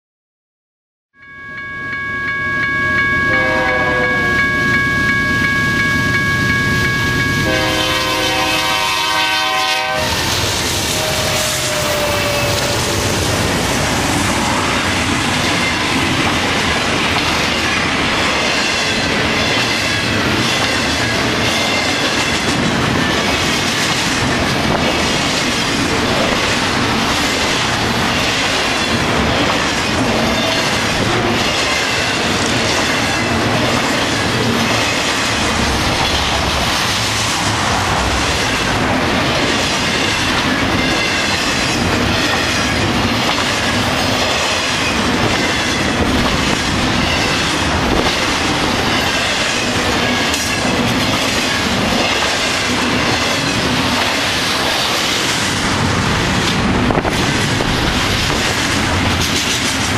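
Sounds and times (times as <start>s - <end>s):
freight train passing: 1.2s - 59.9s.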